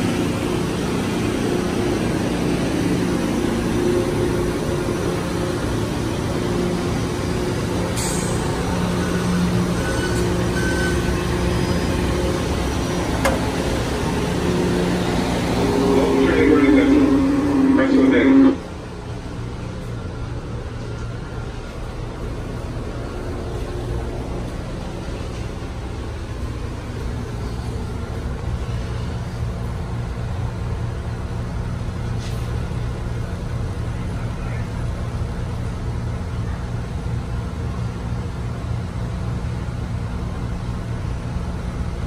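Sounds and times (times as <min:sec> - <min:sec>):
electric train humming: 0:00.0 - 0:42.0.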